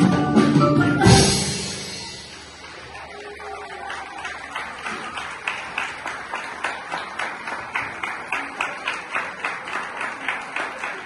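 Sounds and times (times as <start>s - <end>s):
audience rhythmic clapping: 1.8s - 11.0s.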